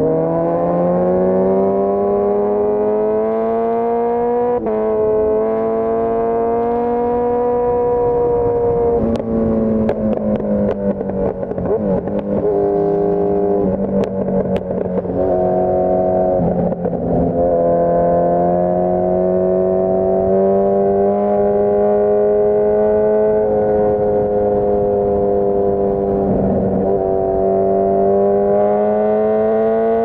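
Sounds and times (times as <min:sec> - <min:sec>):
motorcycle engine while riding: 0:00.0 - 0:30.0.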